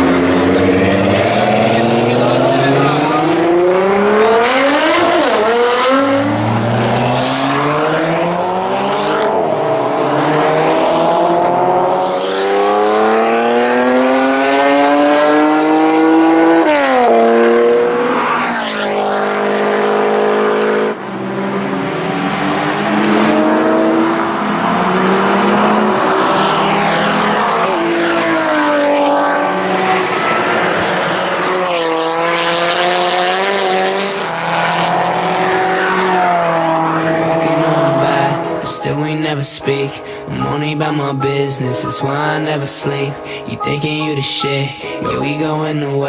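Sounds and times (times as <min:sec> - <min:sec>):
car engine revving hard: 0:00.0 - 0:38.7.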